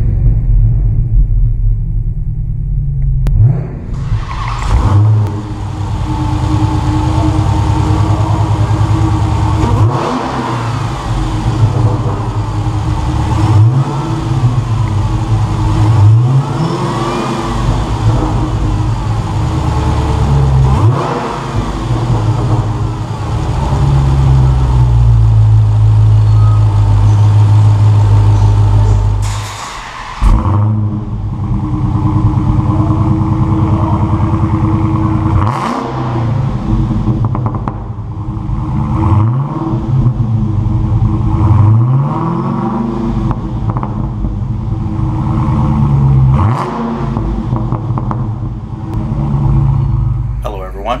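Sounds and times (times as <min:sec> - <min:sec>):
car engine revving: 0:02.3 - 0:50.4.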